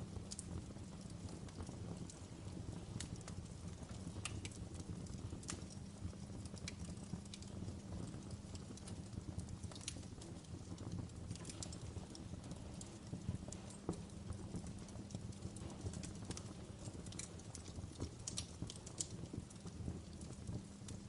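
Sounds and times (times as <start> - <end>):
fire crackling and popping: 0.0 - 21.0
low rumble of fire: 0.0 - 21.0.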